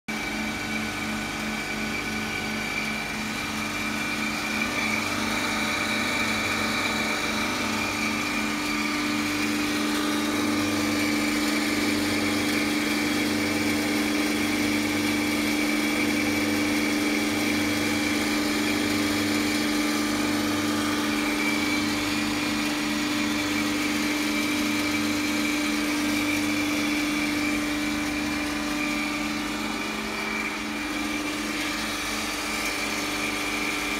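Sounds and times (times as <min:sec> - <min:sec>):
high machine whine: 0:00.1 - 0:33.9
motor and pump hum: 0:00.1 - 0:33.9.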